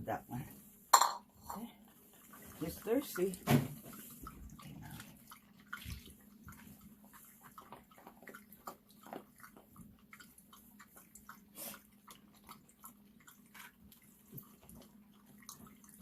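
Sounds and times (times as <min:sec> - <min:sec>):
dogs chewing and lapping: 0:00.0 - 0:16.0.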